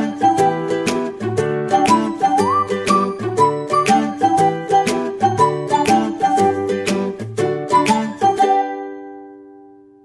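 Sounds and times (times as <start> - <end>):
upbeat instrumental music: 0.0 - 9.5.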